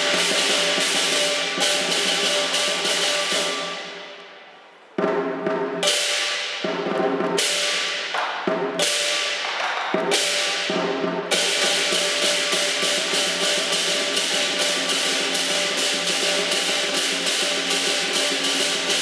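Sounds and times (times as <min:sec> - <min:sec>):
heavy drum strokes: 0:00.0 - 0:04.1, 0:05.0 - 0:19.0
cymbals clashing: 0:00.0 - 0:19.0.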